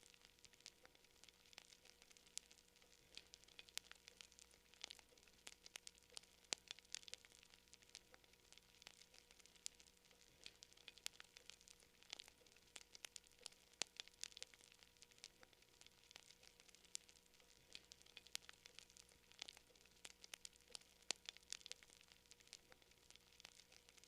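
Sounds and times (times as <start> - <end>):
faint hiss: 0.0 - 24.0
wood fire crackling: 0.0 - 24.0.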